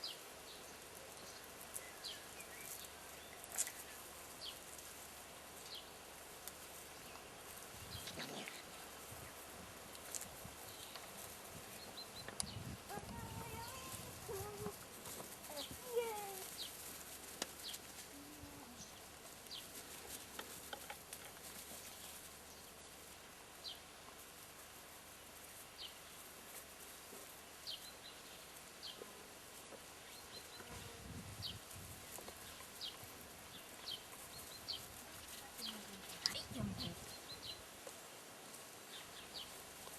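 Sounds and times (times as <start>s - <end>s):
small birds chirping: 0.0s - 22.9s, 23.5s - 24.2s, 25.2s - 39.9s.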